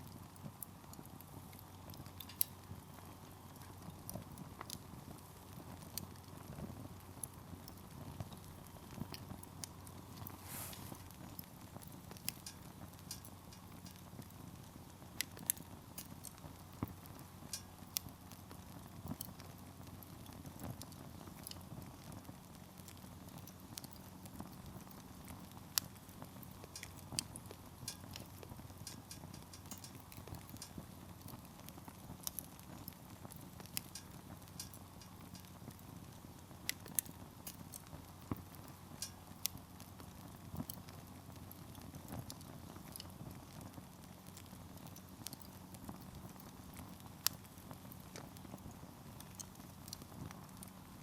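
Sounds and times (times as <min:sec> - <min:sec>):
campfire crackling and popping: 0:00.0 - 0:51.0
low rumble of flames: 0:00.0 - 0:51.0.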